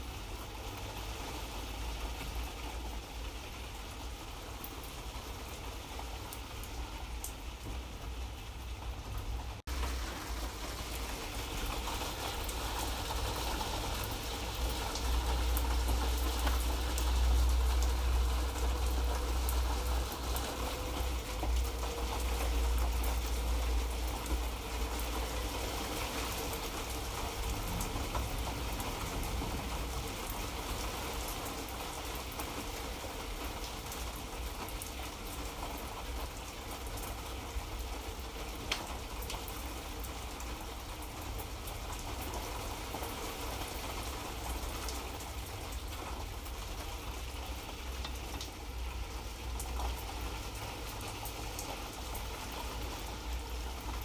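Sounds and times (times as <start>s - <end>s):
light rain hissing: 0.0s - 54.0s
raindrop ticks: 9.2s - 54.0s.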